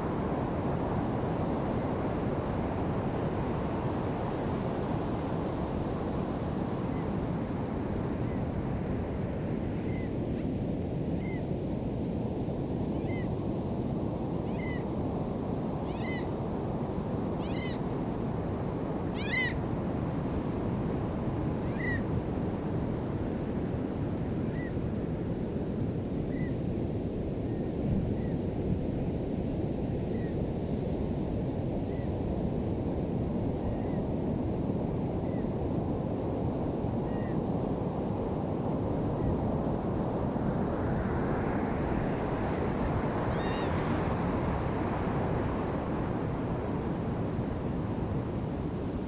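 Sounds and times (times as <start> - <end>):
beach surf: 0.0 - 49.0
wind: 0.0 - 49.0.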